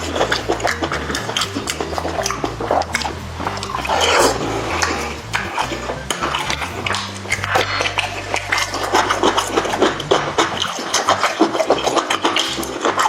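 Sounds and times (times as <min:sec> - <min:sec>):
background music: 0:00.0 - 0:13.0
wet chewing clicks and smacks: 0:00.0 - 0:13.0.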